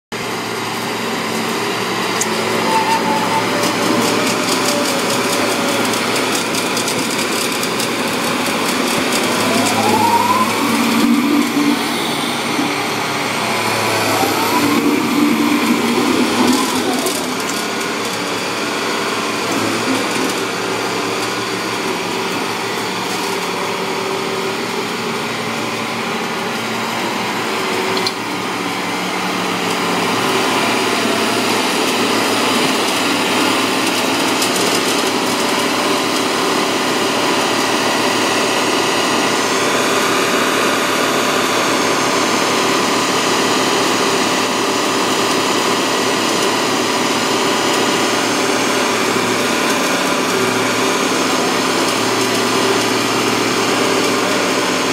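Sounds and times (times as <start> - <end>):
diesel engine running: 0.1 - 54.9.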